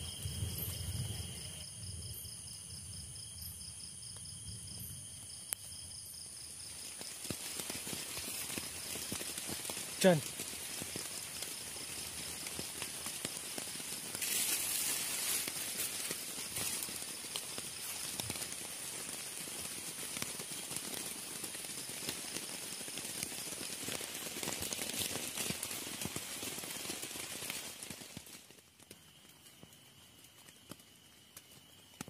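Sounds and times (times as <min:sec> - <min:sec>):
rain pattering: 0:05.5 - 0:32.0.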